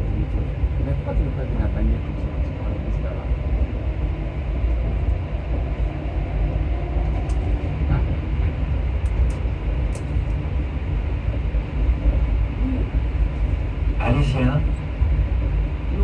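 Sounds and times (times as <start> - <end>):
train rumbling through tunnel: 0.0 - 16.0.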